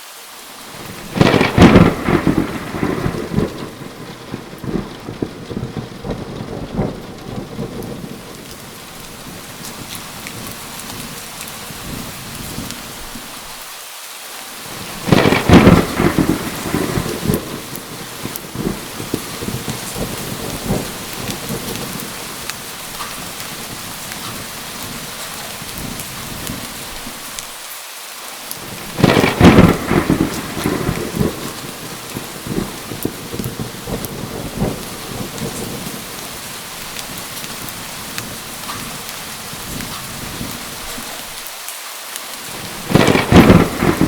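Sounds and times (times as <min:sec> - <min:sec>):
heavy rain: 0:00.0 - 0:44.0
thunderclaps: 0:00.7 - 0:13.5, 0:14.7 - 0:27.5, 0:28.6 - 0:41.4, 0:42.5 - 0:44.0.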